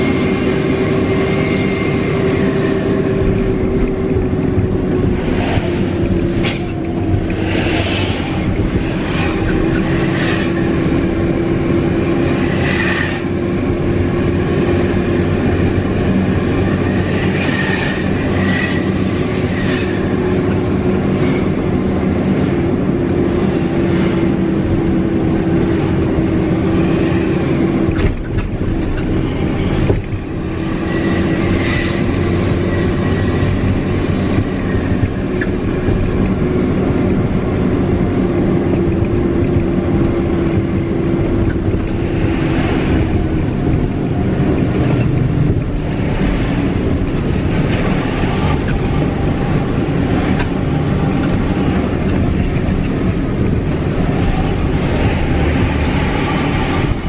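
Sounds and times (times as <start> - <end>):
diesel truck engine running: 0.0 - 12.4, 20.0 - 57.0.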